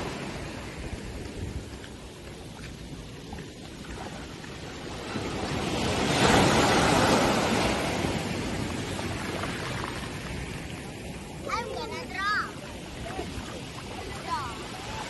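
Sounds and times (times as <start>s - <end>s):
steady wash of the sea: 0.0s - 15.0s
wave breaking: 0.0s - 15.0s.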